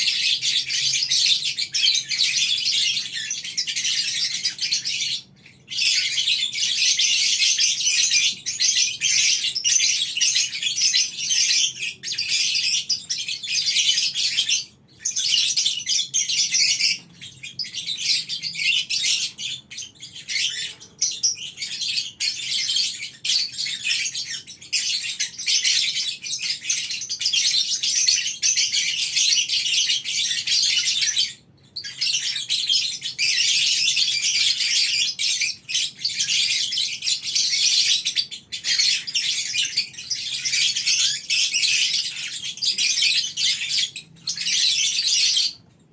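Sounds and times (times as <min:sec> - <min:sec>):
lovebirds chattering: 0:00.0 - 0:45.8.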